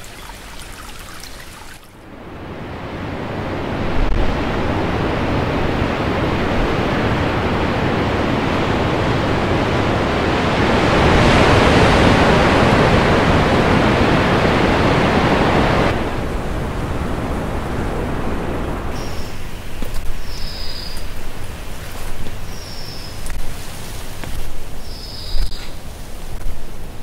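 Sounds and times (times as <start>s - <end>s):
waves breaking: 0.0s - 20.3s, 21.0s - 27.0s.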